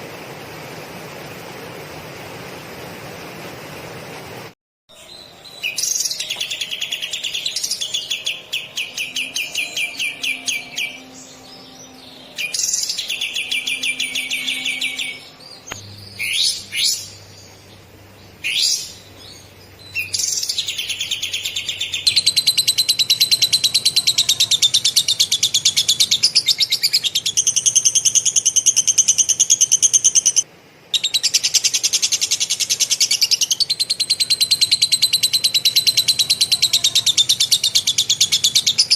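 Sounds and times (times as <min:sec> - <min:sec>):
songbird singing trilled phrases: 0:04.9 - 0:38.9.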